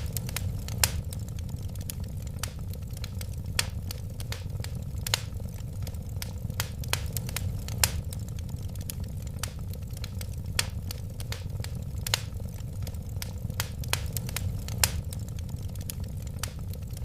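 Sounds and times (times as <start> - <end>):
fire pops and snaps: 0.0 - 17.0
fire rumbling: 0.0 - 17.0.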